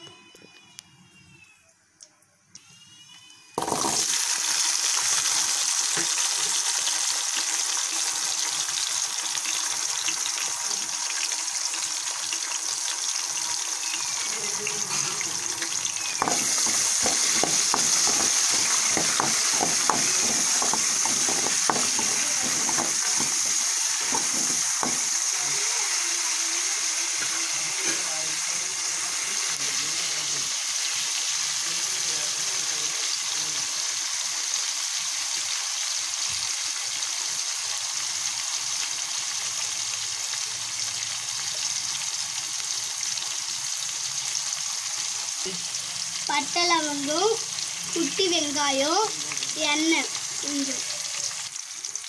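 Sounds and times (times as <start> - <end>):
food sizzling in hot oil: 3.0 - 52.0.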